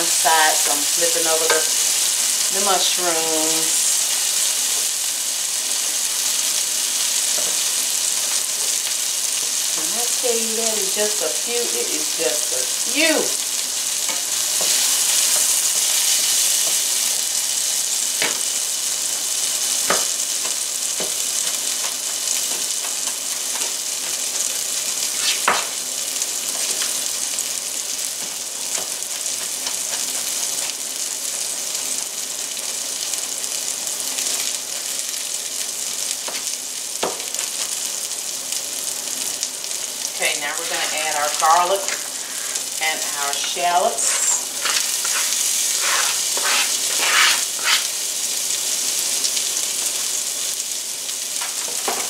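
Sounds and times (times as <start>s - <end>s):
mushrooms sizzling in butter: 0.0s - 52.0s.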